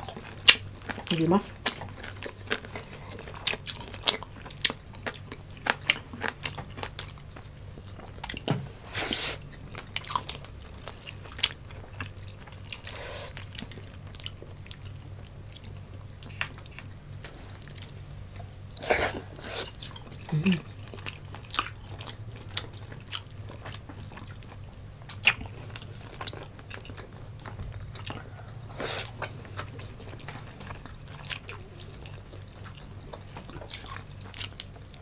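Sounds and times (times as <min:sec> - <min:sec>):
chewing and lip smacking: 0:00.0 - 0:08.5, 0:09.5 - 0:35.0
steady low hum: 0:00.0 - 0:35.0.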